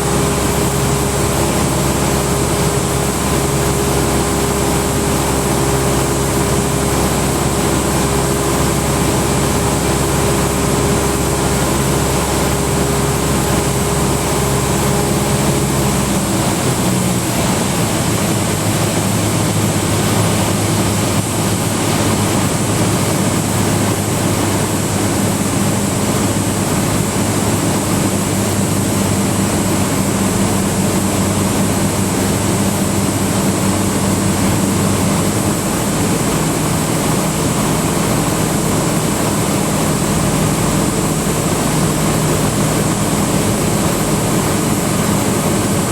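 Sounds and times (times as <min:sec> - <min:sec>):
airplane engine and propeller droning: 0:00.0 - 0:45.9.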